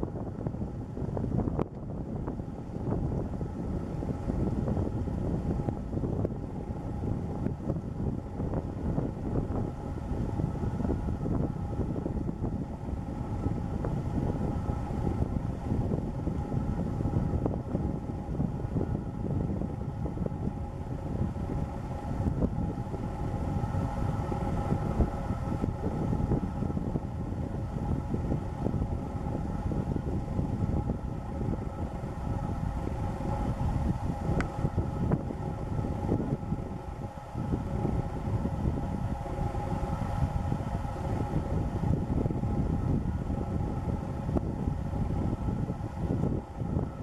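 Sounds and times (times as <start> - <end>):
faint steady tonal hum: 0.0 - 47.0
wind buffeting microphone: 0.0 - 47.0.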